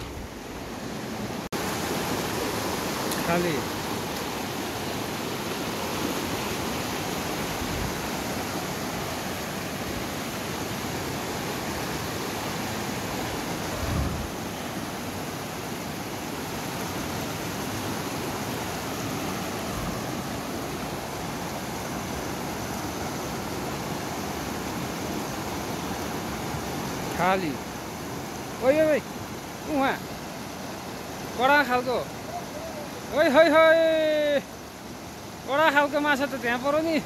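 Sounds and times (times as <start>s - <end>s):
river rushing over boulders: 0.0s - 37.0s.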